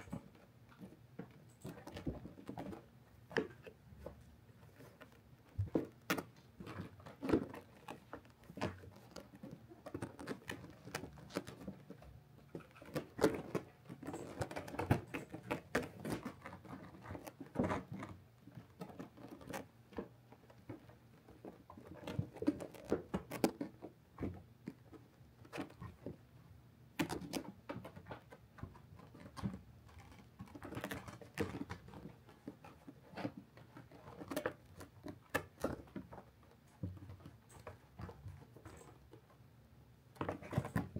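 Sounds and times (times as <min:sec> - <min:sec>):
kitten claws scratching on felt: 0:00.0 - 0:26.3, 0:26.9 - 0:39.3.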